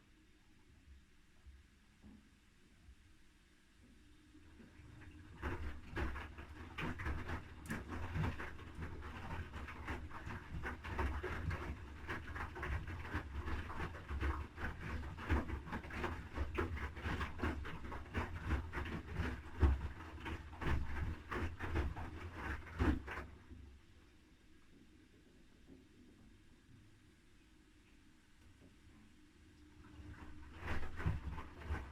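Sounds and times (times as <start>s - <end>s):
swishing laundry and water: 3.8s - 26.3s, 28.4s - 31.9s.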